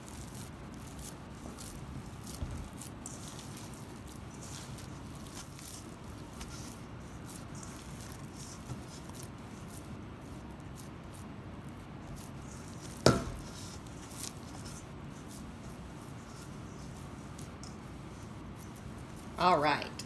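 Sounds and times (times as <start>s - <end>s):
hands squishing meat mixture: 0.0s - 19.4s.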